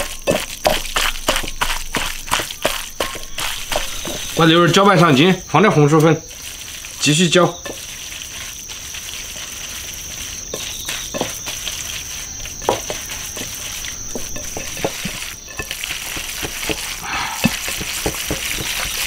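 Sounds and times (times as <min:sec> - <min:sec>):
high-pitched insect trill: 0:00.0 - 0:19.0
wet squelches of meat stirred by hand: 0:00.0 - 0:19.0.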